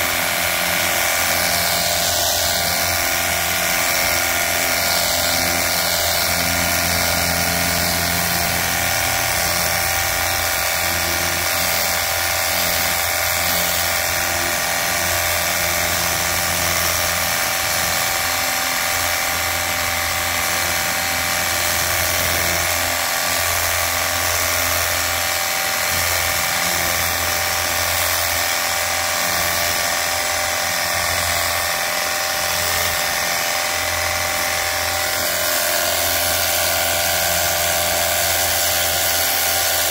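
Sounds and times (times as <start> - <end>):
pressure washer pump whining: 0.0 - 39.9.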